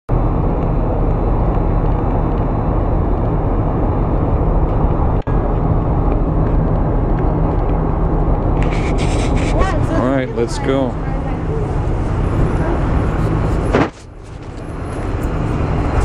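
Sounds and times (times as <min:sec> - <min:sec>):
street traffic rumble: 0:00.1 - 0:16.0.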